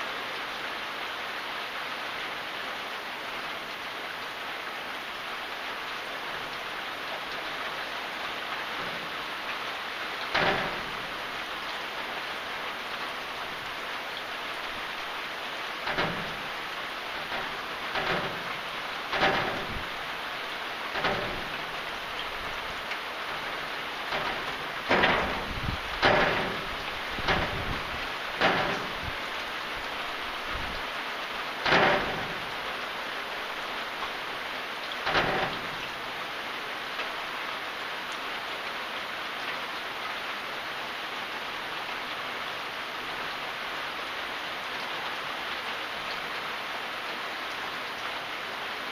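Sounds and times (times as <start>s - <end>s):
steady rain hissing: 0.0s - 48.9s.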